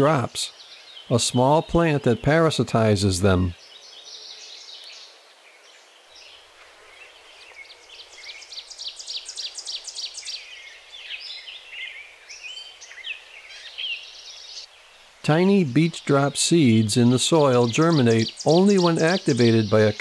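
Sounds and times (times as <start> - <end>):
birds chirping: 0.0 - 20.0
soft steady background noise: 0.0 - 20.0.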